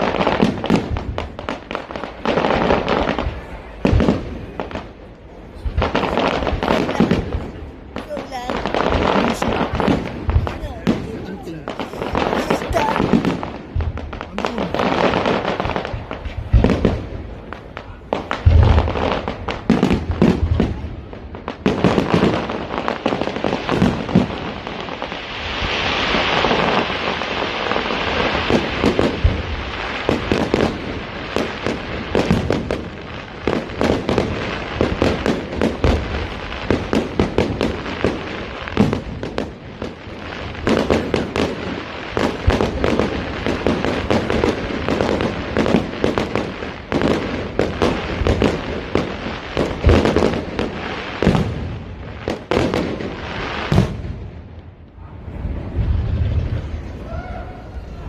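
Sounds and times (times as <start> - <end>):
fireworks booming: 0.0 - 58.0
fireworks crackling and popping: 0.0 - 58.0.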